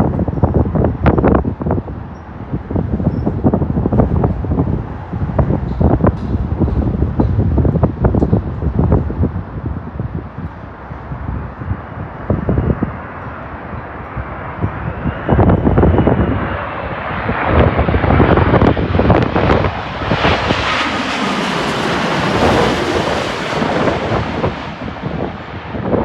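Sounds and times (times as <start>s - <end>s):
jet airliner passing low: 0.0s - 26.0s
wind buffeting microphone: 0.0s - 26.0s.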